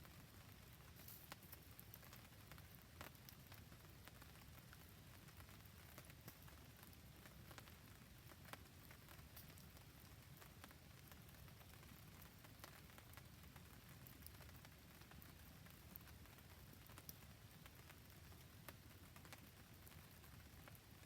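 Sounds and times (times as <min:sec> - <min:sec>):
campfire crackling: 0:00.0 - 0:21.0
faint rain: 0:00.0 - 0:21.0.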